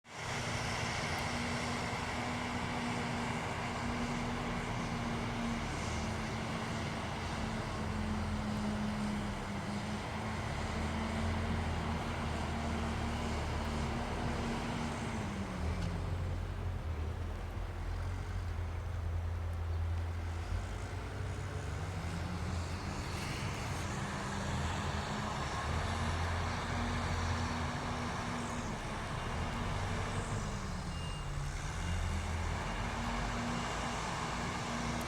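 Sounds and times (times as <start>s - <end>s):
bulldozer diesel engine rumbling: 0.2s - 35.0s.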